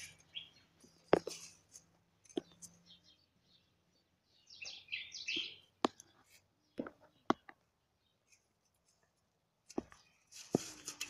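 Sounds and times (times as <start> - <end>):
bird chirping: 0.0 - 9.0.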